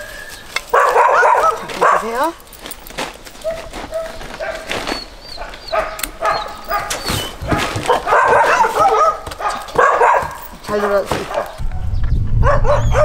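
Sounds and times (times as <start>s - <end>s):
dogs yipping and whining: 0.0s - 2.8s, 3.4s - 11.6s, 12.5s - 13.0s.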